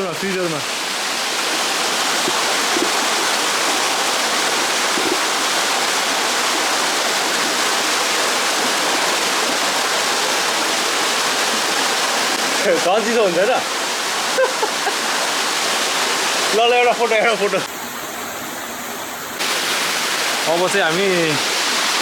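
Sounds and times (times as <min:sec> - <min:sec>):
waterfall pouring: 0:00.0 - 0:22.0.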